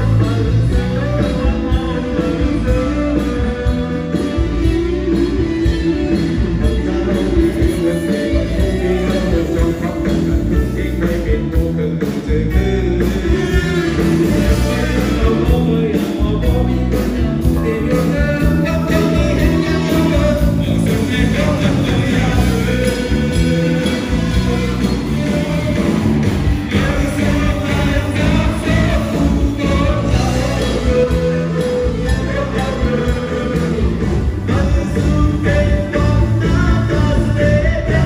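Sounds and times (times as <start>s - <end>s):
live rock band playing: 0.0s - 38.0s
person singing: 0.0s - 38.0s.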